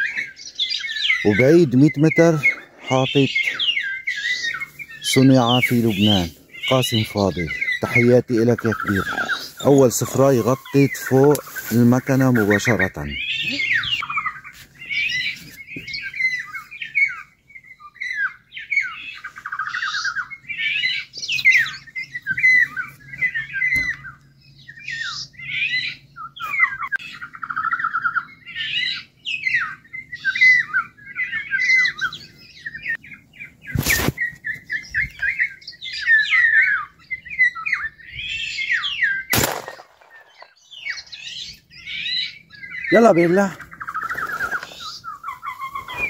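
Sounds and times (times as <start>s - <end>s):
electronic bird calls and song: 0.0s - 46.0s.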